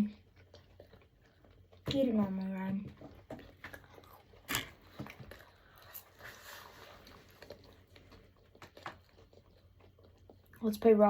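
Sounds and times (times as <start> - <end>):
person chewing: 0.0 - 10.7.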